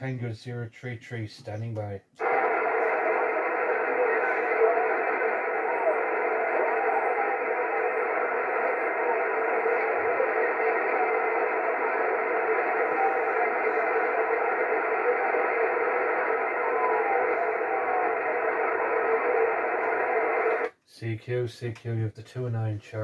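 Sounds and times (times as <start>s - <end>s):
faint steady tones: 1.6s - 20.7s
radio static hiss: 2.2s - 21.1s.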